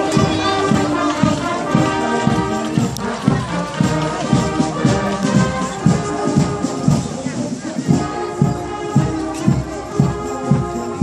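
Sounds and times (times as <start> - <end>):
brass band playing a march: 0.0 - 11.0.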